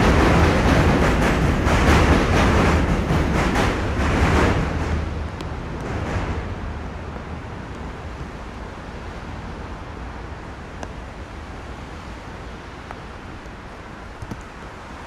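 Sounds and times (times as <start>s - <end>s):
traffic on wet roads: 0.0s - 15.0s.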